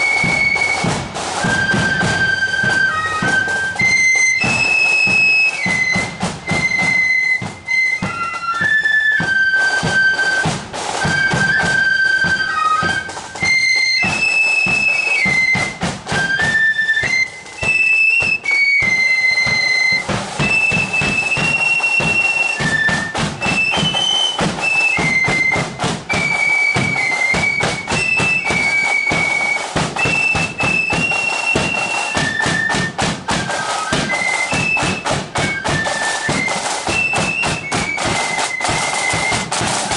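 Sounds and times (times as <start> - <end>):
flutes playing melody: 0.0 - 39.9
side drum and bass drum beats: 0.0 - 39.9.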